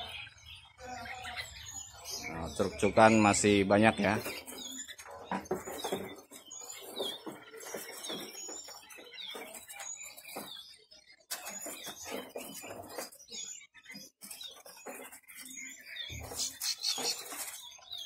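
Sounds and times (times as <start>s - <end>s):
chorus of songbirds chirping: 0.0s - 18.0s.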